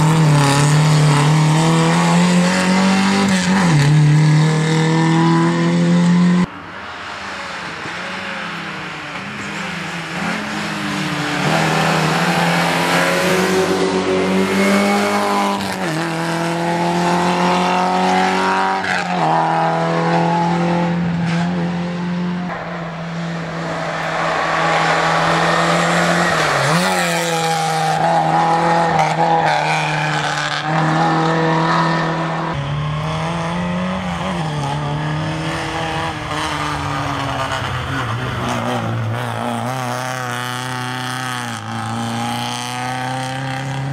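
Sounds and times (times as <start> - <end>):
car engine revving: 0.0 - 6.5, 7.6 - 43.9.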